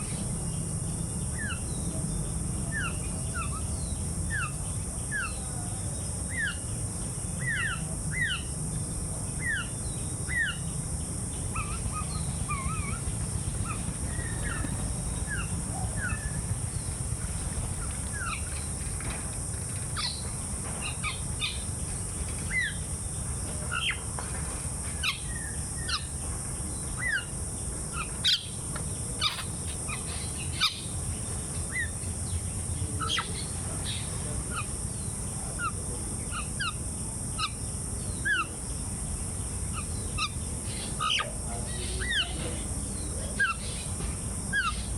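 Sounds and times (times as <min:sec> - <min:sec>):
birds chirping: 0:00.0 - 0:44.9
insects droning: 0:00.0 - 0:44.9.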